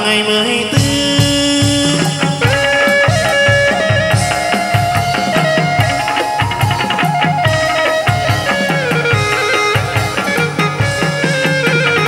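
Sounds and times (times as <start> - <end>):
melody of long held notes: 0.7 - 12.0
plucked strings: 0.7 - 12.0
steady drum beat: 0.7 - 12.0.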